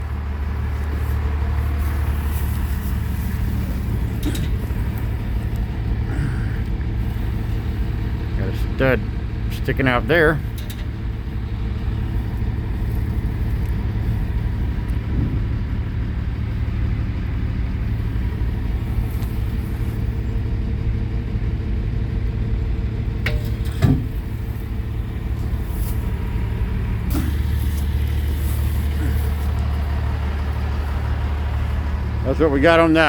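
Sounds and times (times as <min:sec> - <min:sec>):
deep low hum: 0:00.0 - 0:32.9
vehicle engine idling: 0:00.0 - 0:33.0.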